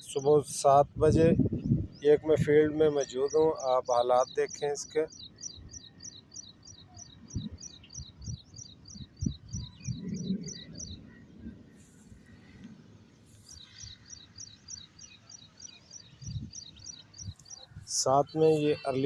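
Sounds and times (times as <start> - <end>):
small bird chirping: 3.0 - 11.2, 11.8 - 19.0.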